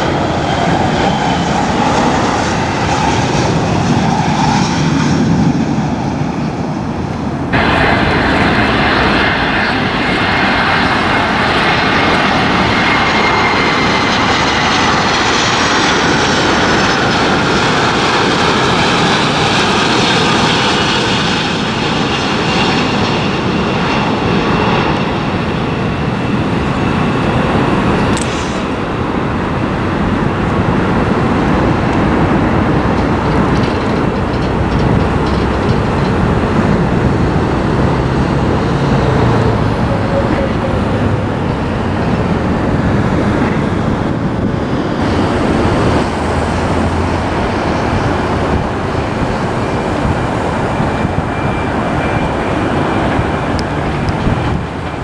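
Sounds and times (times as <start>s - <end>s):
jet airliner engines: 0.0s - 55.0s
jet engine whine falling in pitch: 0.0s - 55.0s.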